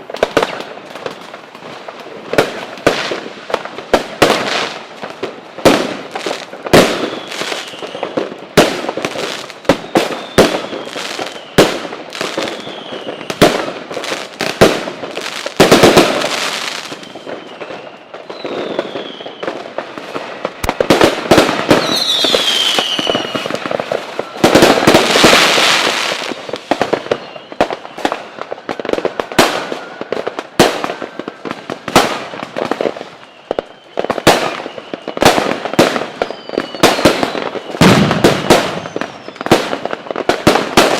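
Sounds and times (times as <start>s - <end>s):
firework crackling: 0.0s - 40.9s
falling firework whistles: 0.1s - 40.9s.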